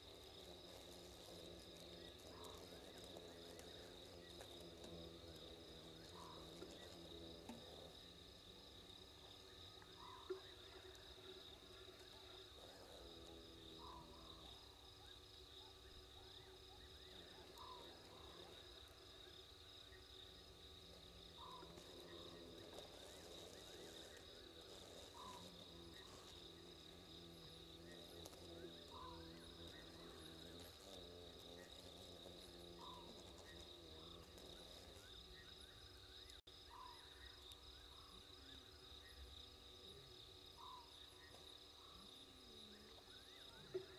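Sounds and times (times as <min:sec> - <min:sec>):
crickets chirring: 0:00.0 - 0:43.9.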